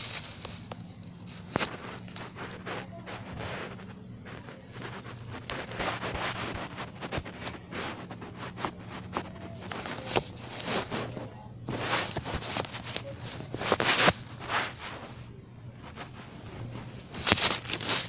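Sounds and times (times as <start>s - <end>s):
rustling and scraping: 0.0s - 18.0s.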